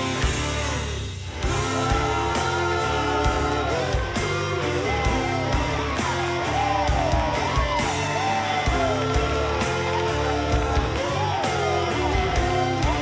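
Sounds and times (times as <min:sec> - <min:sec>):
bass and drums beat: 0:00.0 - 0:13.0.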